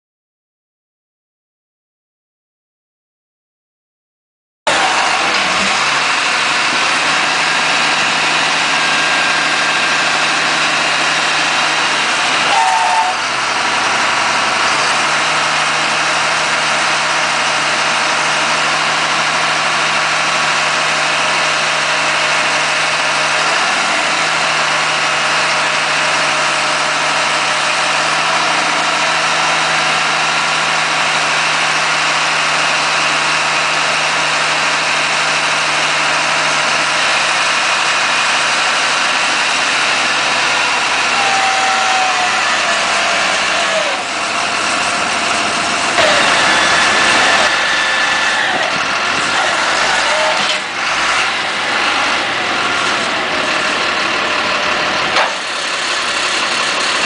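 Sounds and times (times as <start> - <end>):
diesel engine idling: 4.7 - 57.0.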